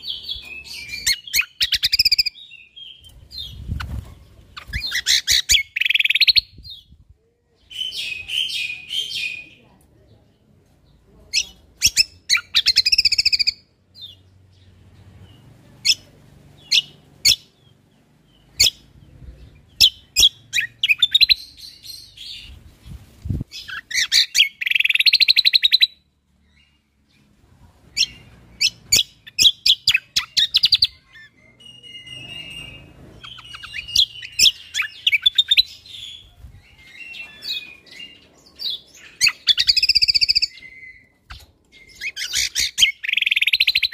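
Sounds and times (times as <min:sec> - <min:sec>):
songbird chirps and trills: 0:00.0 - 0:43.9.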